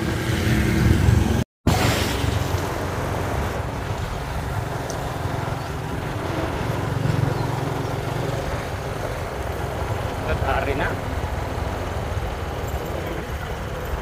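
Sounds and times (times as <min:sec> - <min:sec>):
motorcycle cruising: 0:00.0 - 0:14.0.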